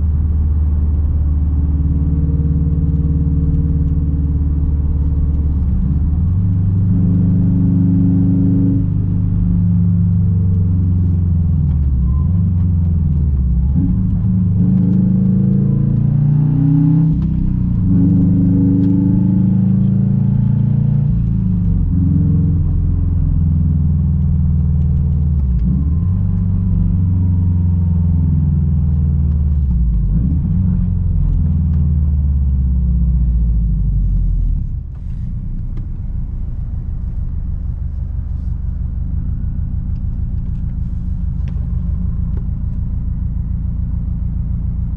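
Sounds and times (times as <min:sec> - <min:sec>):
car engine accelerating through gears: 0:00.0 - 0:44.9.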